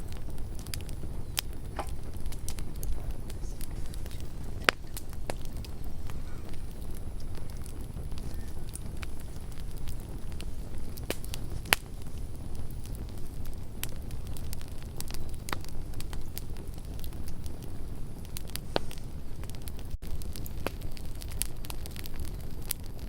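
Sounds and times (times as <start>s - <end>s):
campfire crackles and pops: 0.0s - 23.0s
low fire rumble: 0.0s - 23.0s.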